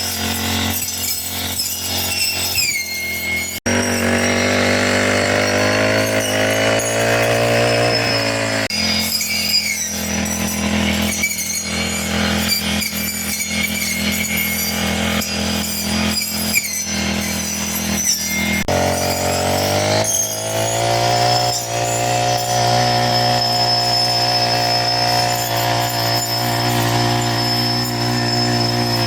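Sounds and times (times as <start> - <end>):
brush cutter engine cutting grass: 0.0 - 29.0.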